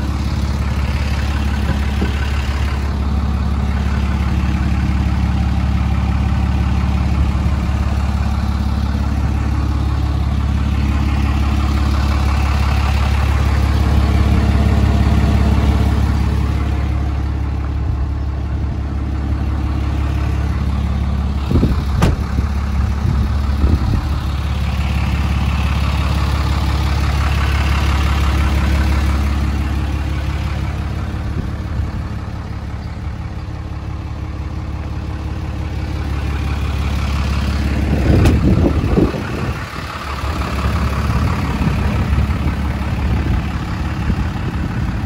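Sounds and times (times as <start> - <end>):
diesel engine idling: 0.0 - 45.0
engine knock and rumble: 0.0 - 45.0.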